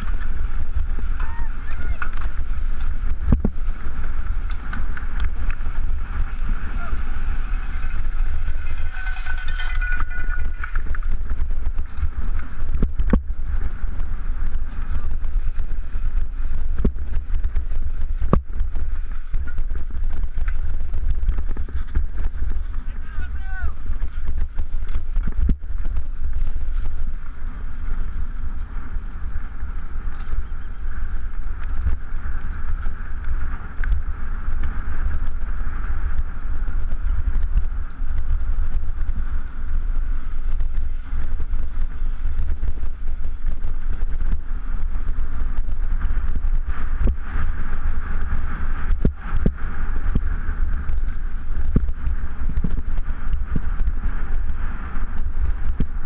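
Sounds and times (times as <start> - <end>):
bike riding rumble and hiss: 0.0 - 56.0
wind buffeting microphone: 0.0 - 56.0.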